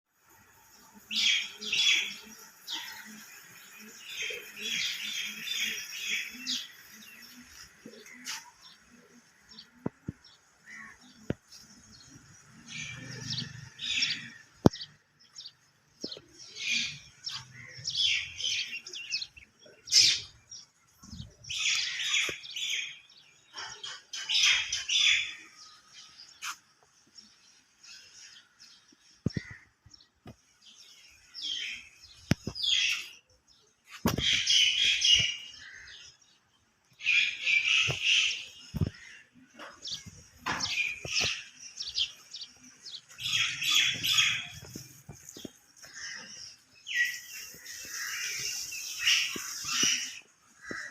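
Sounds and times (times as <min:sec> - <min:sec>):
small birds chirping: 0:00.2 - 0:50.9.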